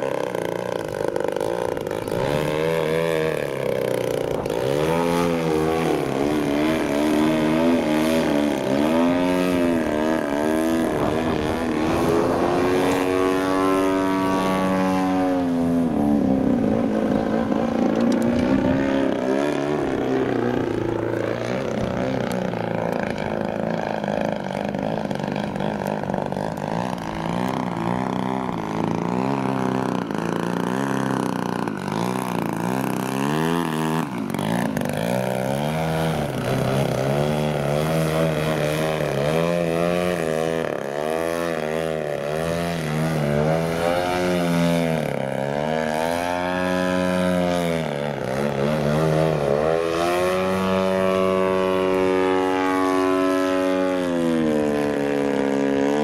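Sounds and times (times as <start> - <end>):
model airplane motor and propeller: 0.0 - 56.0.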